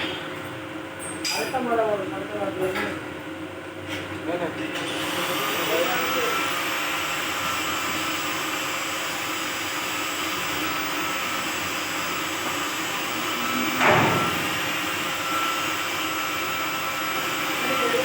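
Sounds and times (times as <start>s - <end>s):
steady rushing workshop noise: 0.0s - 18.0s.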